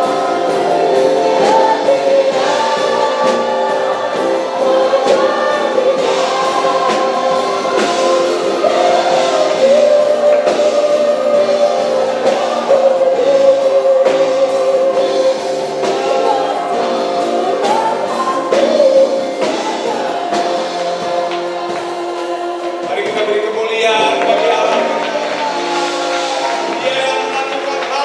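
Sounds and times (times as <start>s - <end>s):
group singing worship song: 0.0s - 28.0s
instrumental accompaniment with beat: 0.0s - 28.0s.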